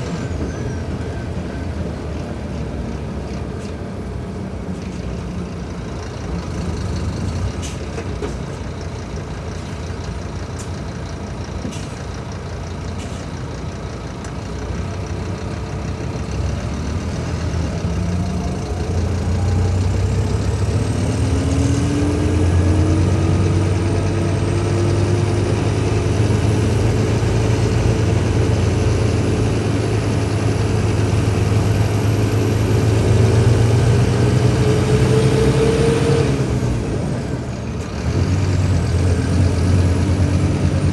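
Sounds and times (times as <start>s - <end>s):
bus engine running: 0.0s - 40.9s.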